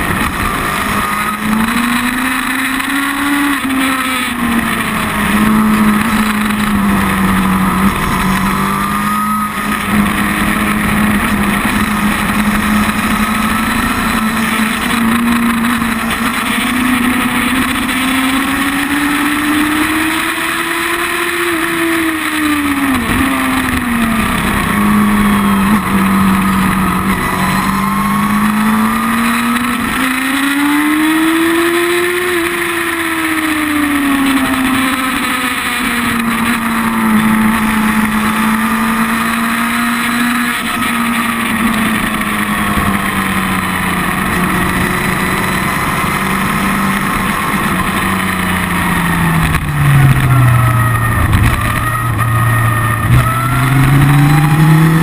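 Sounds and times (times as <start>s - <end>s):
motorcycle engine running hard: 0.0s - 55.0s
wind and road noise: 0.0s - 55.0s.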